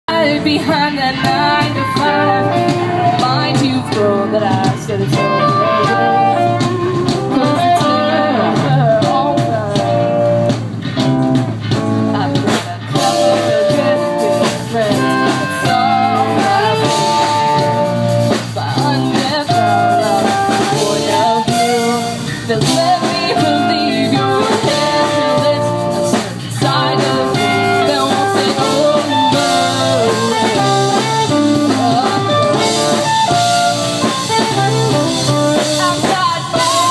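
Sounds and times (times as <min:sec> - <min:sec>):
person singing: 0:00.1 - 0:10.3, 0:12.0 - 0:36.9
drum kit: 0:00.1 - 0:36.9
electric guitar: 0:00.1 - 0:36.9.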